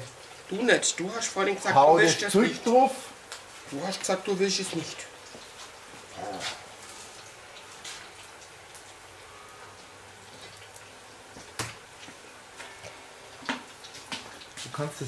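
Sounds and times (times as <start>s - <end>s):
meat sizzling on grill: 0.0s - 15.0s.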